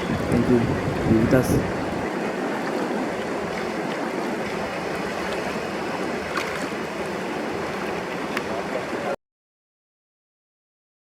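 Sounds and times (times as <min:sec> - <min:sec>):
flowing river water: 0:00.0 - 0:09.2.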